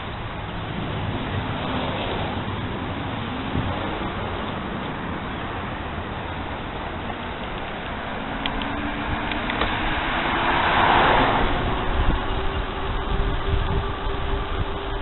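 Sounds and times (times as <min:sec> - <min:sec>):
car passing: 0:00.0 - 0:15.0
wind and road noise: 0:00.0 - 0:15.0.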